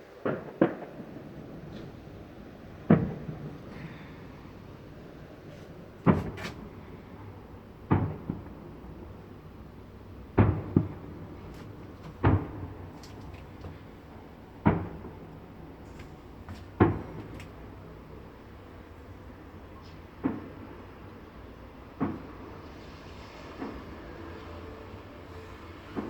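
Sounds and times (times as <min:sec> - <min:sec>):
fireworks crack: 0:00.0 - 0:09.4, 0:10.1 - 0:26.0
fireworks booming: 0:00.2 - 0:26.0.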